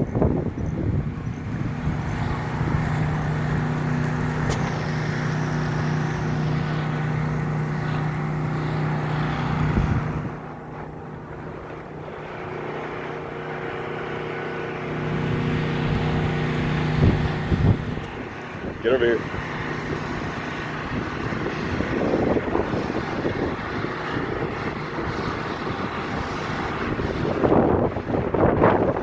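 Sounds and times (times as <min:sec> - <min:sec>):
generator engine running: 0:00.0 - 0:29.0
steady rushing noise: 0:00.0 - 0:29.0.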